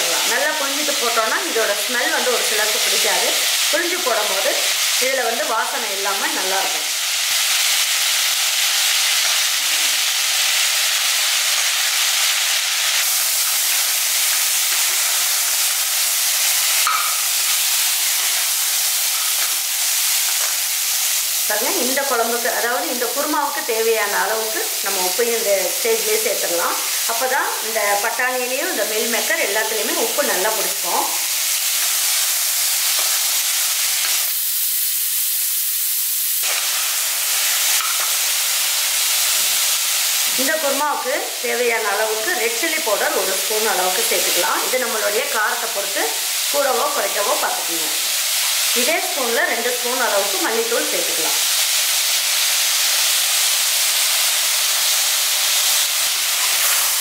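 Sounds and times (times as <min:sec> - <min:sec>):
vegetables sizzling in hot oil: 0:00.0 - 0:57.0.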